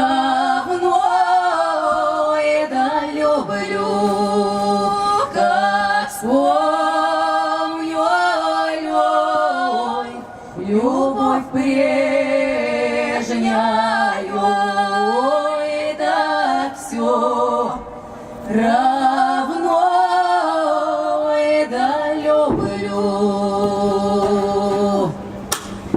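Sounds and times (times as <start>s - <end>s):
vocal ensemble singing a cappella: 0.0s - 25.9s.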